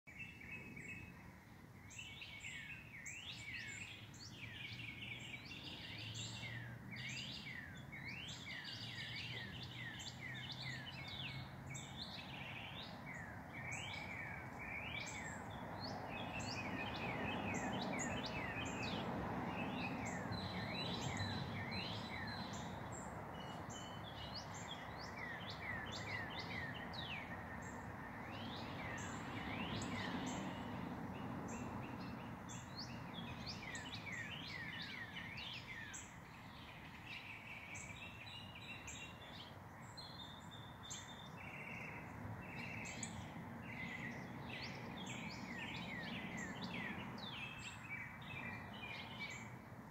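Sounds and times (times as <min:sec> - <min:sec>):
birds chirping: 0:00.1 - 0:49.8
city noise rumble: 0:03.0 - 0:49.9.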